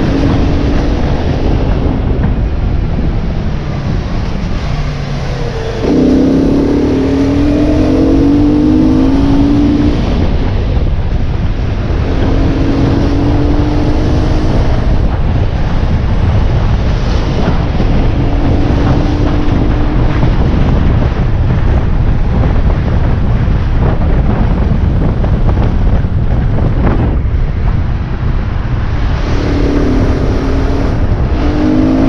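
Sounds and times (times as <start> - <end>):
motorcycle engine: 0.0 - 32.0
wind buffeting microphone: 0.0 - 32.0.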